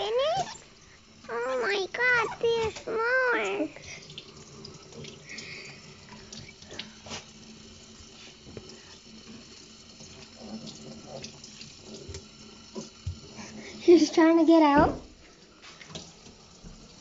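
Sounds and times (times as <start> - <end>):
faucet water splashing into sink: 0.0 - 17.0.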